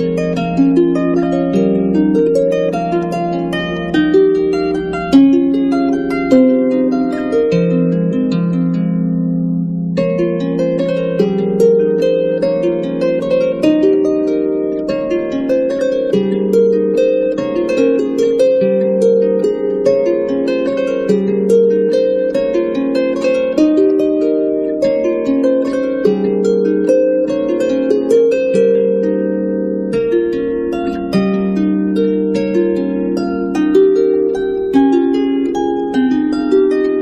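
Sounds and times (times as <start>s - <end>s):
harp playing plucked notes: 0.0s - 37.0s.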